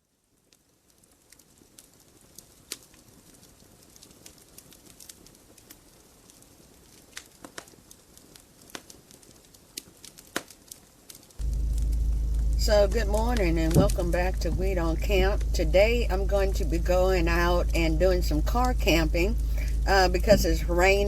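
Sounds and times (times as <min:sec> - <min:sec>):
light rain hiss: 0:00.0 - 0:21.0.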